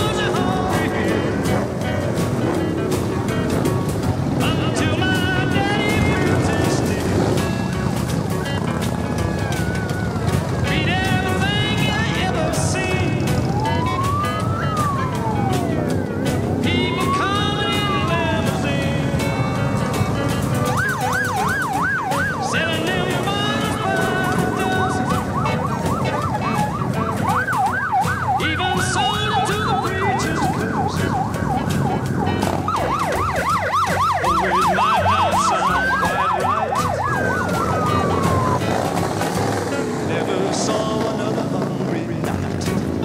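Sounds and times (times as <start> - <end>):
motorcycles rumbling past: 0.0 - 43.0
sirens yelping: 0.0 - 43.0.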